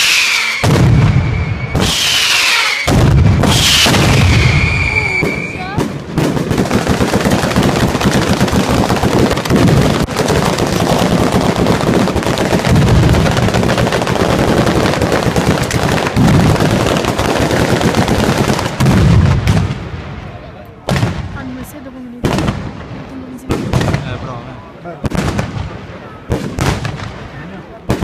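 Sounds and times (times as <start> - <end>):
firecracker bangs: 0.0 - 24.4, 25.0 - 28.0
deep firework booms: 0.0 - 28.0.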